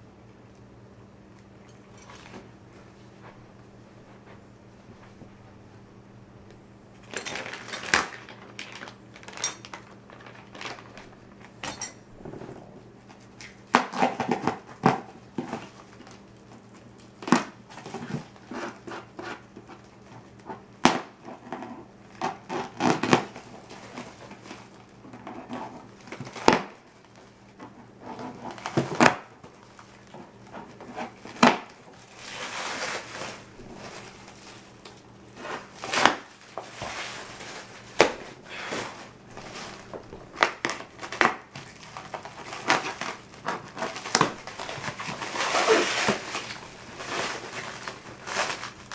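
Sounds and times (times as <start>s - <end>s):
packaging rustling and scraping: 7.0s - 20.6s, 21.2s - 48.9s.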